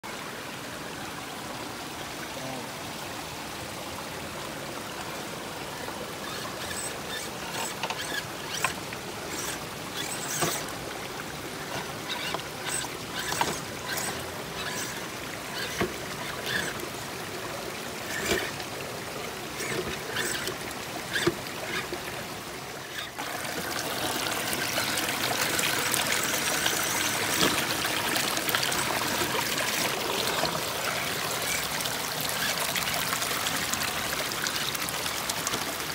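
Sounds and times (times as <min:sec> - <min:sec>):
creek trickling over stones: 0:00.0 - 0:35.9
running water: 0:00.0 - 0:35.9.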